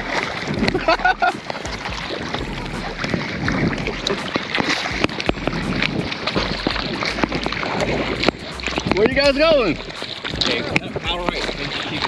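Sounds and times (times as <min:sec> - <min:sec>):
paddles splashing in water: 0:00.0 - 0:12.0
wind buffeting microphone: 0:00.0 - 0:12.0.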